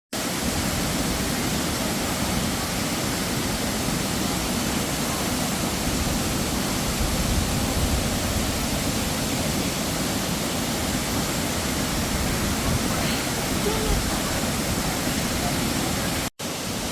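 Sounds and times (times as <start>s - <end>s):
waterfall rushing: 0.2s - 16.9s.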